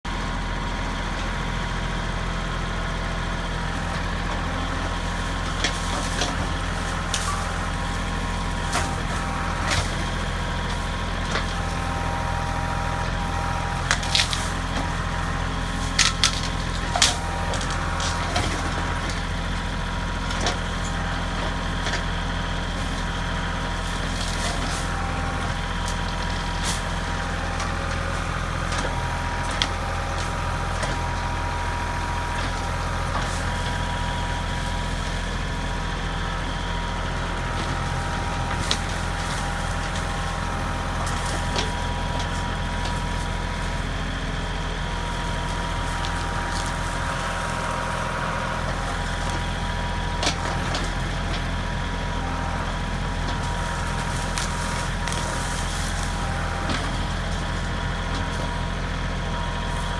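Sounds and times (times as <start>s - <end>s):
diesel tractor engine running: 0.0s - 59.9s
wood cracking and snapping: 3.5s - 59.9s.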